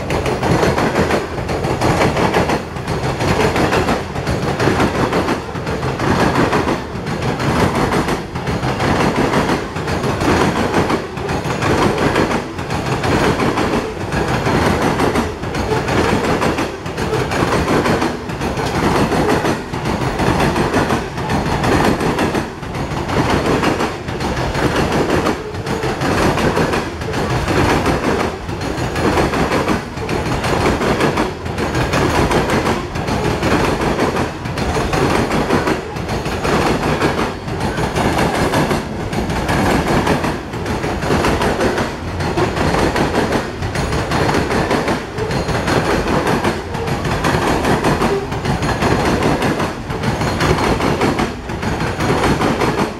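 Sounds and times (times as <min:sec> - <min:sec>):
steel wheels rumbling on rail: 0:00.0 - 0:52.9.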